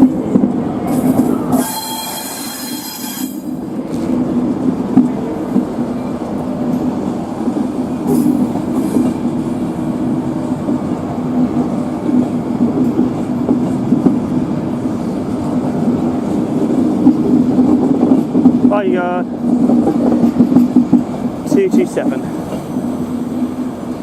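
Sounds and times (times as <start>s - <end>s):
train moving with steady drone: 0.0s - 24.0s.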